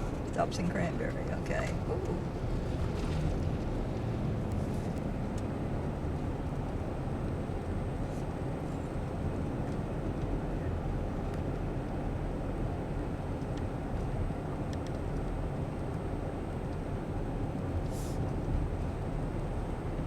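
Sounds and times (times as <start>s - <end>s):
truck road and engine rumble: 0.0s - 20.0s.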